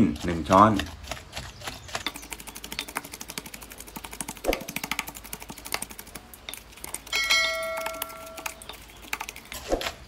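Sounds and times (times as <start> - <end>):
pestle pounding in mortar: 0.0 - 9.6.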